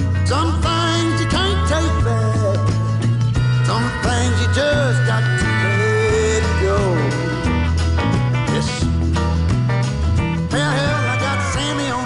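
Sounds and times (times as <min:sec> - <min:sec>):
song with guitar and bass: 0:00.0 - 0:12.0.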